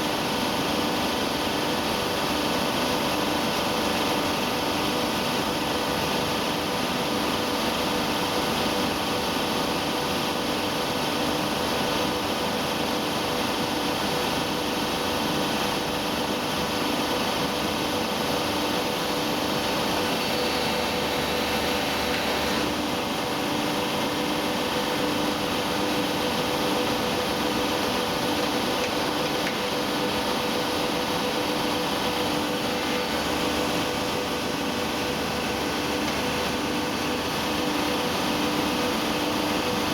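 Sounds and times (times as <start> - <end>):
industrial machinery humming: 0.0 - 39.9.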